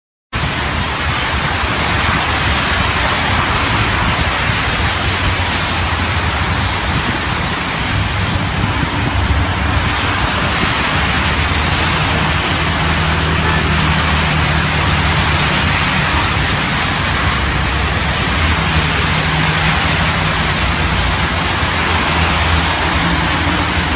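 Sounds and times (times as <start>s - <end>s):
rain: 0.3s - 23.9s
floodwater rushing down channel: 0.4s - 23.9s
passing cars humming: 0.4s - 23.9s
tyres hissing on wet road: 0.4s - 23.9s.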